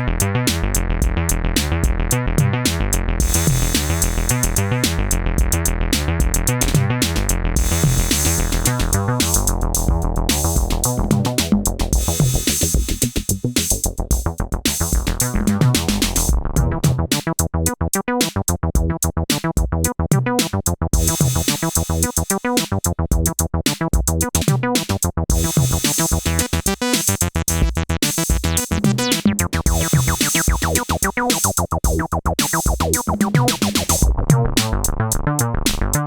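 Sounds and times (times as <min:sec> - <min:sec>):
drum machine beat: 0:00.0 - 0:36.0
synthesizer bass line: 0:00.0 - 0:36.0.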